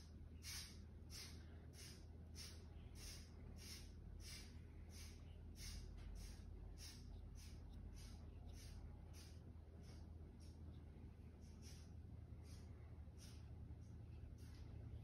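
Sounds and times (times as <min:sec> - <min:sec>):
low steady hum: 0:00.0 - 0:15.0
paintbrush swishes on paper: 0:00.5 - 0:14.9.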